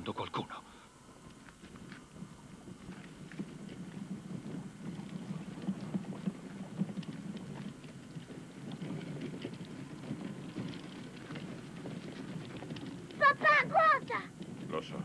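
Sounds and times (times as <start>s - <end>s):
cart wheels rattling on dirt: 2.9s - 15.0s.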